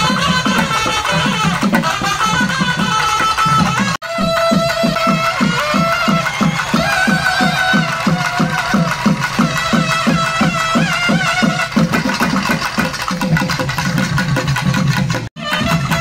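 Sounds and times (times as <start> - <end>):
folk melody: 0.0 - 13.5, 15.4 - 16.0
hand drums beating: 0.0 - 16.0.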